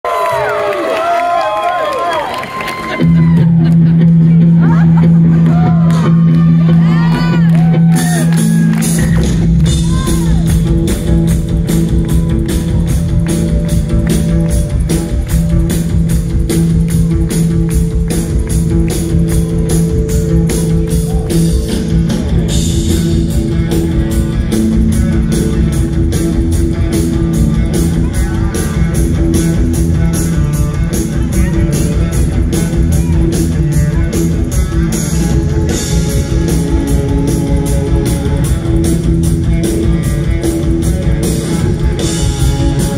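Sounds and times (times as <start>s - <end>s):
drums: 0.0s - 42.9s
keyboards: 2.0s - 42.9s
electric guitar: 2.7s - 42.9s
bass guitar: 2.9s - 42.9s.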